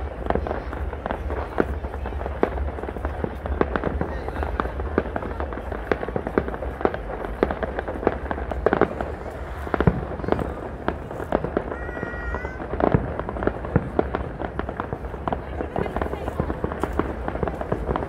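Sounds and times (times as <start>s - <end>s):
fireworks bangs: 0.0s - 18.0s
fireworks crackling and popping: 0.0s - 18.0s.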